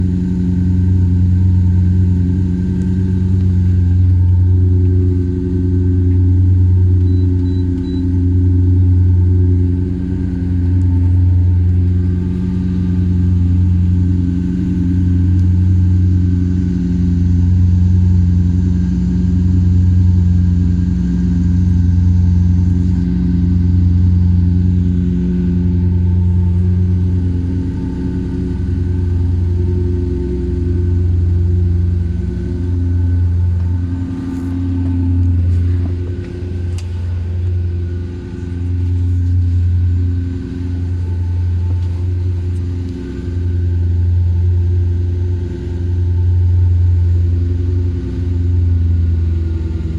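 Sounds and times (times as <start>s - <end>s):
car exhaust droning: 0.0s - 49.9s.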